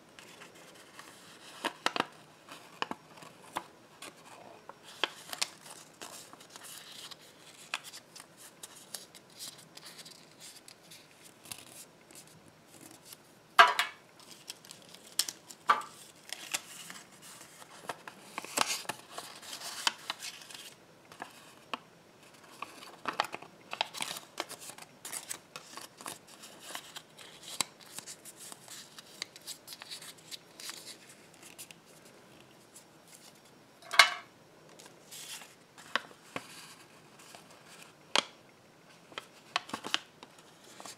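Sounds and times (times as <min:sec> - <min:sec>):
paper crinkling and rustling: 0:00.2 - 0:13.2, 0:14.2 - 0:33.5, 0:34.7 - 0:38.0, 0:39.0 - 0:40.9.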